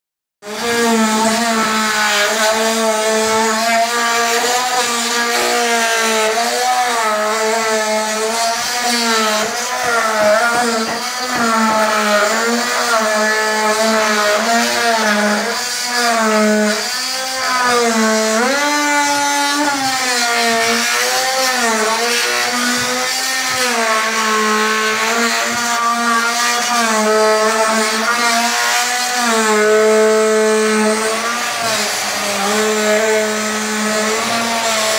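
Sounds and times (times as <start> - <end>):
power tool cutting drywall: 0.4 - 34.9.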